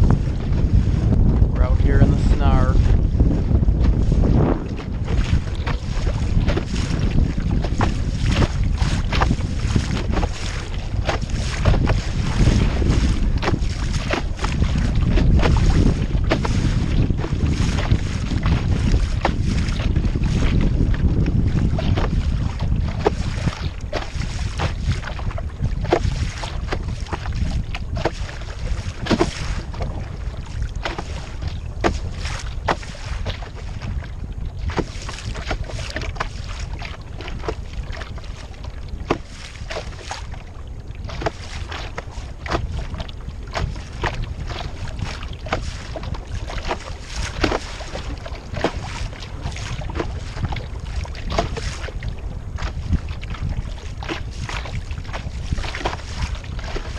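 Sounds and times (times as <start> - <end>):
waves slapping against hull: 0.0 - 56.9
wind buffeting microphone: 0.0 - 56.9.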